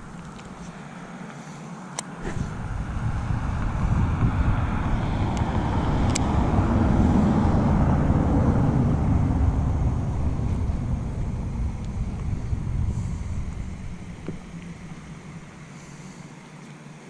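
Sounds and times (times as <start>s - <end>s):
wind buffeting microphone: 2.2s - 16.2s.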